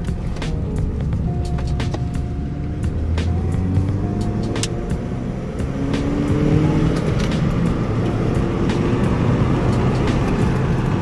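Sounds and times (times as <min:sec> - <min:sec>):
car engine accelerating: 0:00.0 - 0:11.0
road rumble inside car: 0:00.0 - 0:11.0.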